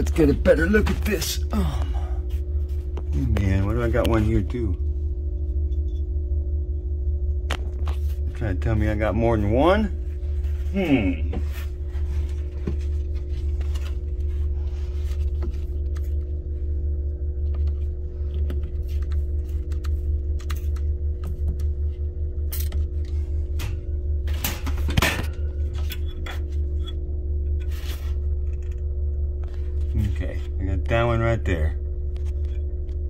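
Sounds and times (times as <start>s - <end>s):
machinery hum: 0.0s - 33.0s.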